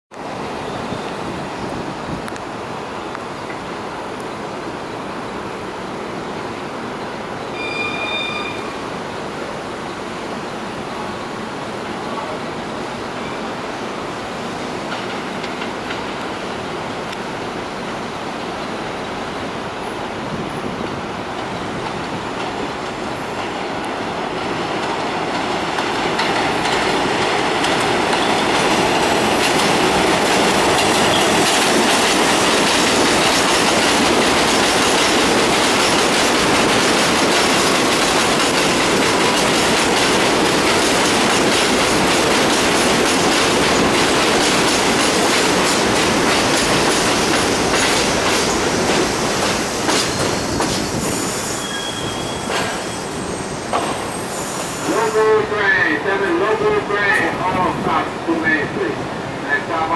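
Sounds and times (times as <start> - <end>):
subway train rolling into station: 0.1 - 59.9.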